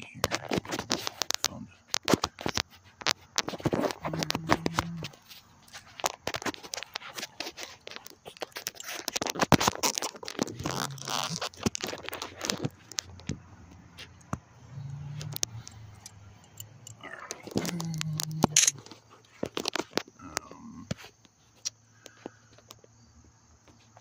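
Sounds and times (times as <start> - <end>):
ratchet clicking and scraping: 0.4 - 19.8.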